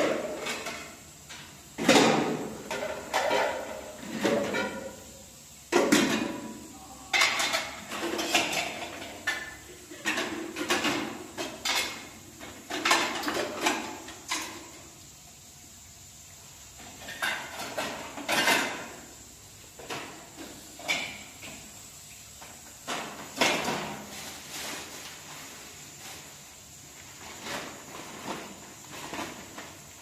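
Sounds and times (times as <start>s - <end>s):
pots and dishes clattering: 0.0s - 14.9s, 16.7s - 21.8s, 22.4s - 26.4s.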